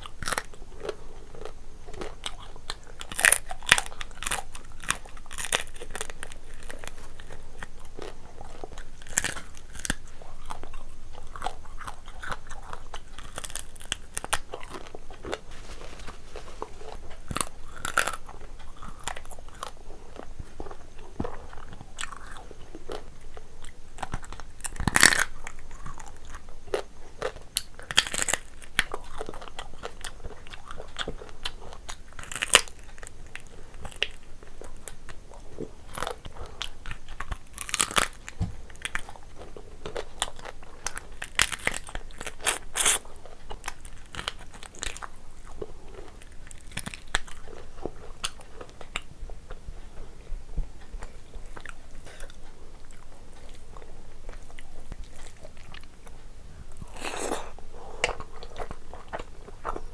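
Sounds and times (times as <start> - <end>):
chewing lobster: 0.0 - 59.9.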